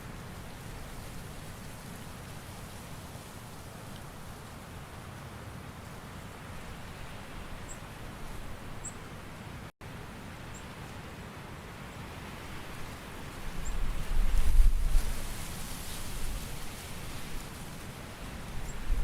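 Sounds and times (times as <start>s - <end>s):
even outdoor hiss: 0.0s - 19.0s.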